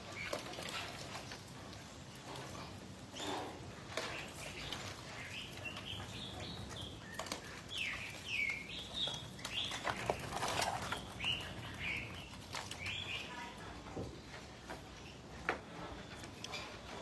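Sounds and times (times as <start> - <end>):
crabs knocking and scraping: 0.0 - 17.0.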